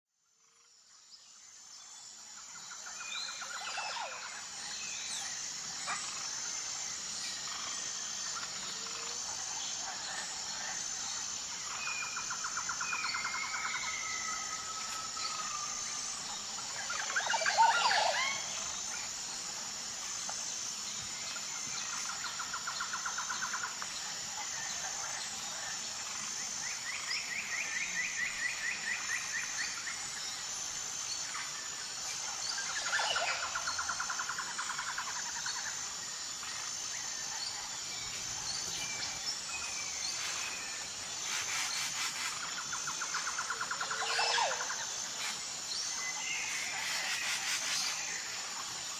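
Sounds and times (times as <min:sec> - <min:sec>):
pulsing insect drone: 0:00.2 - 0:48.9
birds calling and trilling: 0:02.6 - 0:30.1, 0:30.8 - 0:48.9.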